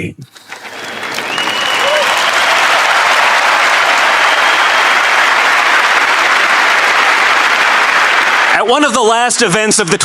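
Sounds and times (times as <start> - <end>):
stadium crowd applauding and cheering: 0.3 - 9.3.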